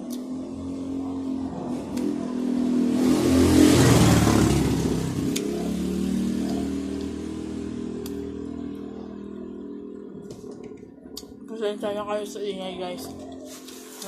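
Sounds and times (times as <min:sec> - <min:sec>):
steady engine hum: 0:00.0 - 0:14.0
vehicle passing by: 0:00.0 - 0:14.0.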